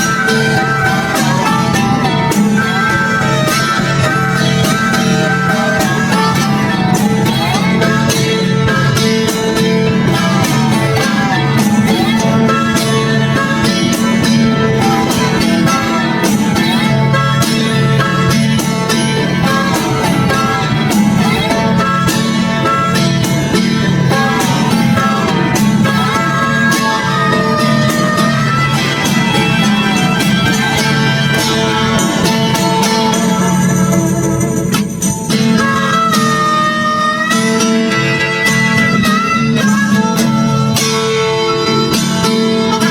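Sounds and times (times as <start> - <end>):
bluegrass guitar and banjo music: 0.0 - 42.9.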